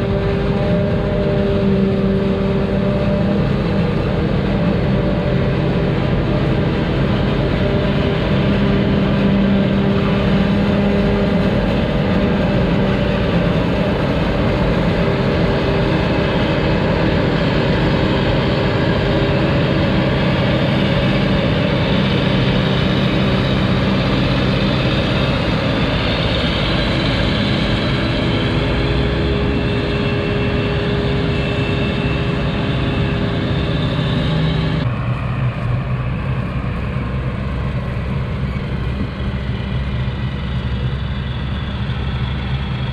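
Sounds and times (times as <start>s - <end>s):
heavy diesel farm machinery running: 0.0s - 42.9s.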